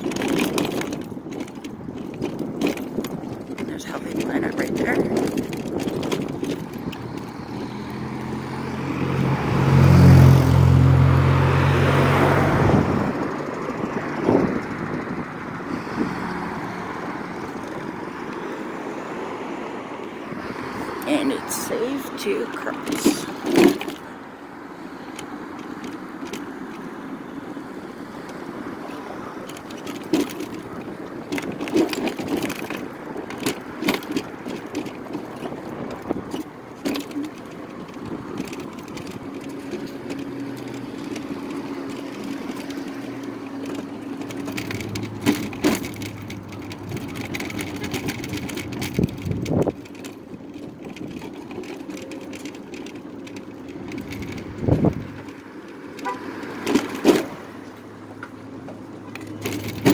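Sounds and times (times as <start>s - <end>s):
knocks and rattles from bumps: 0.0s - 59.9s
tyre noise on pavement: 0.0s - 59.9s.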